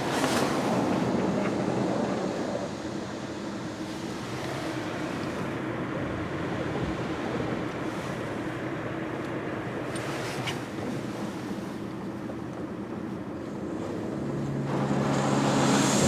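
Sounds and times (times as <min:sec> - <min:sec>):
low pump hum: 0:00.6 - 0:16.0.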